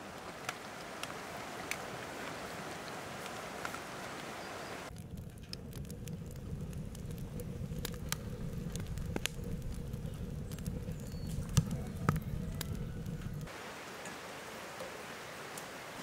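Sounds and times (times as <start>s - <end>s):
burning logs crackling and popping: 0.0s - 13.6s, 14.3s - 16.0s
wood fire flame rumble: 0.0s - 13.6s.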